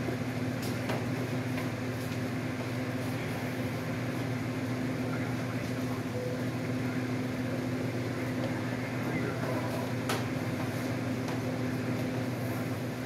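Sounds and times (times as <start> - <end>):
electrical machine hum: 0.0 - 13.0.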